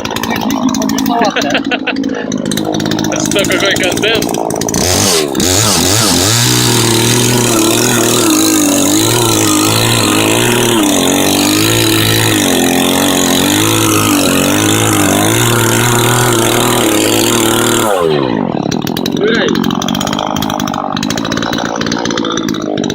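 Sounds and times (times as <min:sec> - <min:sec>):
chainsaw cutting wood: 0:00.0 - 0:22.9.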